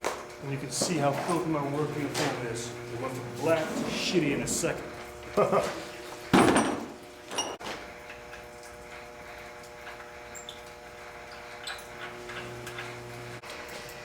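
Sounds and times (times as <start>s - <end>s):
boiler machinery humming: 0.0s - 14.0s.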